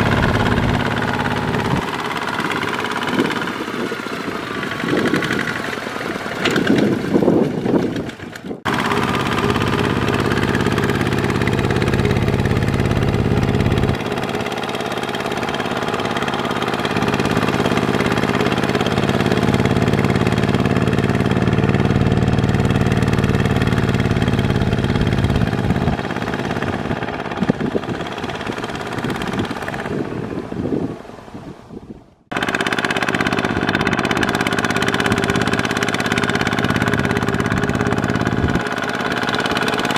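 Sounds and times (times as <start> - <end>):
walking tractor diesel engine: 0.0 - 31.6, 32.2 - 39.9.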